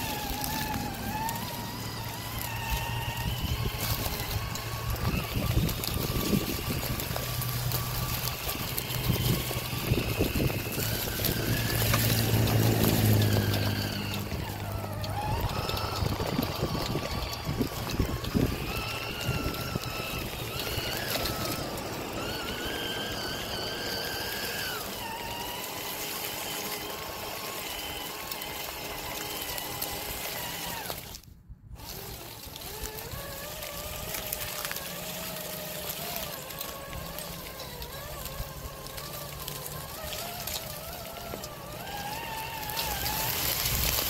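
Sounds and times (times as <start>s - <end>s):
small electric motor whining: 0.0s - 44.0s.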